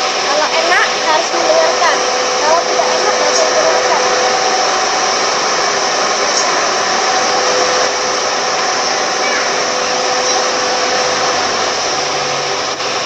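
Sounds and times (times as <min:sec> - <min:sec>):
blower fan rushing air: 0:00.0 - 0:13.0.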